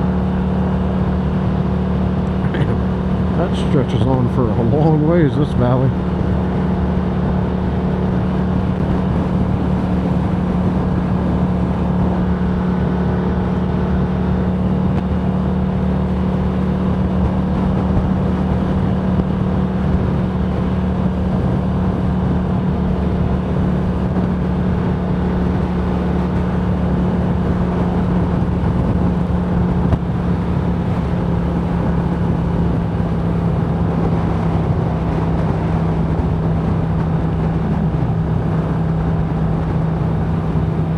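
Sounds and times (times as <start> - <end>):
motorcycle drivetrain drone: 0.0 - 40.9
wind and road noise: 0.0 - 40.9.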